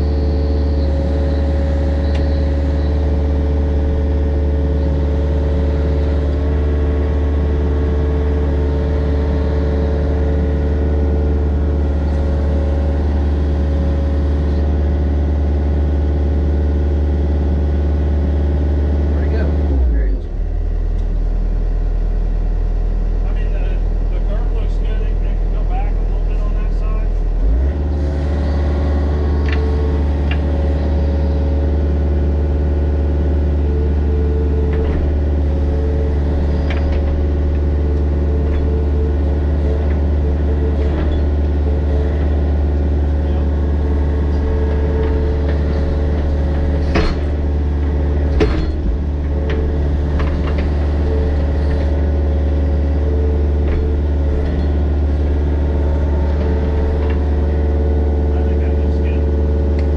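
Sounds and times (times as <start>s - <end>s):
diesel engine humming: 0.0s - 59.9s.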